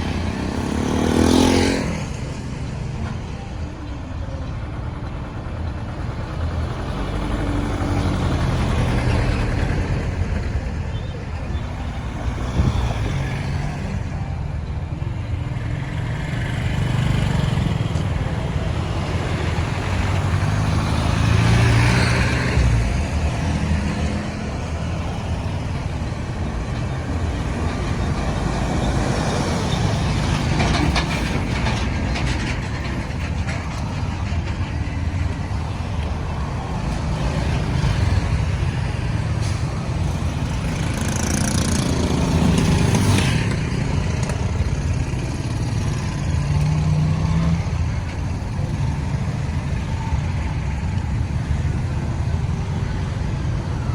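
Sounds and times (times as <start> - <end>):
road traffic: 0.0 - 53.9.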